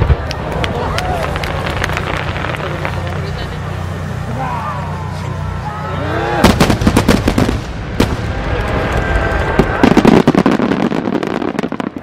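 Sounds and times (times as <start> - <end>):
firework crackles: 0.0 - 12.0.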